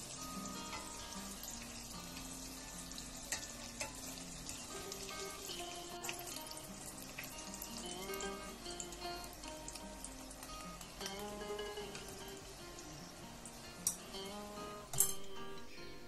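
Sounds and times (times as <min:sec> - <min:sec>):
food deep-frying in oil: 0:00.0 - 0:14.3.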